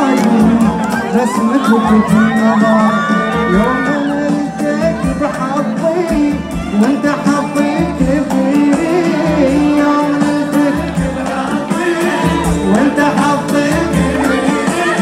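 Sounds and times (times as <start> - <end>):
pop song over sound system: 0.0 - 15.0.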